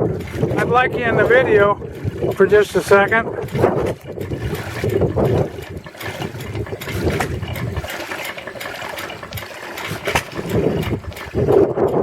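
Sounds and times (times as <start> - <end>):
engine running steadily: 0.0 - 12.0
water gushing from pump: 0.0 - 12.0.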